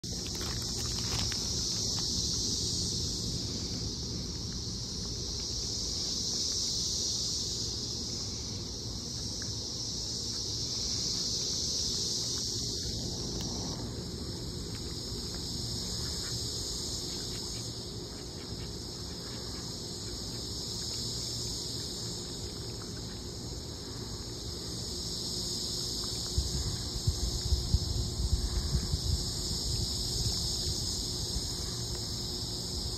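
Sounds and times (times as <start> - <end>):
insects droning: 0.0 - 32.9
low outdoor rumble: 0.0 - 32.9.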